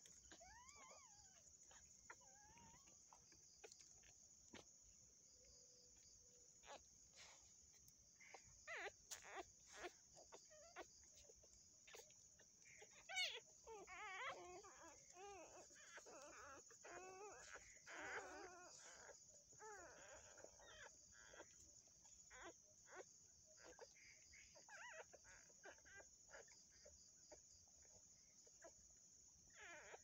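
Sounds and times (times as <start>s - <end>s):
dog whimpering and squealing: 0.0s - 4.7s, 6.0s - 28.9s, 29.5s - 30.0s.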